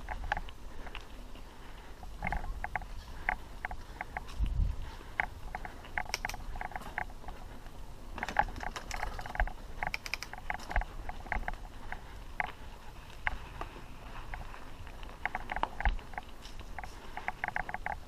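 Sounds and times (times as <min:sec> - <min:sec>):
bike clicking and rattling: 0:00.0 - 0:18.0.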